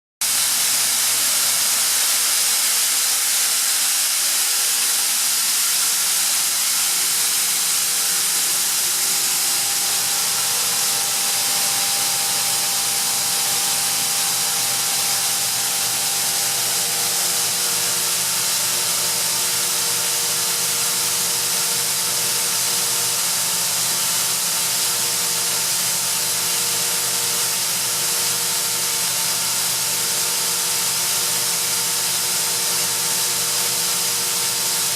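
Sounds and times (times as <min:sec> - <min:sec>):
air compressor hissing: 0:00.2 - 0:34.9.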